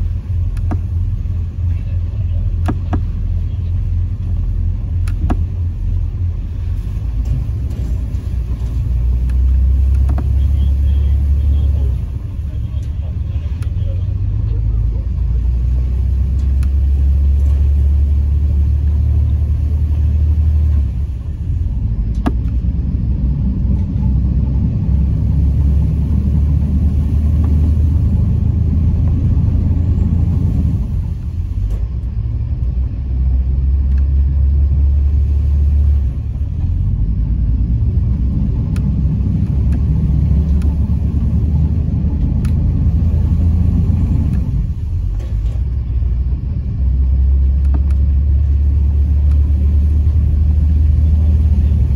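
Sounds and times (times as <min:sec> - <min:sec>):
boat engine rumble: 0:00.0 - 0:51.9.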